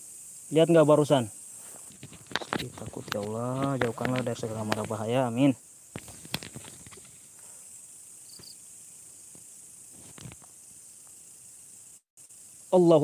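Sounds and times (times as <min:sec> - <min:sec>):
night insects chorus: 0:00.0 - 0:13.0
faint ticks and rustles: 0:00.9 - 0:12.4.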